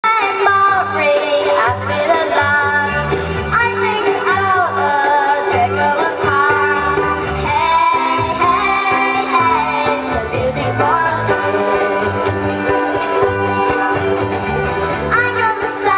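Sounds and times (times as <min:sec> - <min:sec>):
song with singing: 0:00.0 - 0:15.9
repeating bass line: 0:01.9 - 0:15.9.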